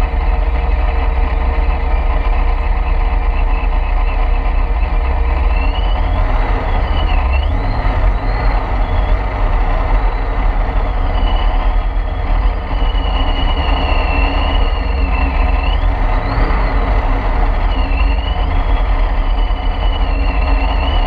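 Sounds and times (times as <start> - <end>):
car engine deep rumble: 0.0 - 21.0
supercharger whine: 0.0 - 21.0.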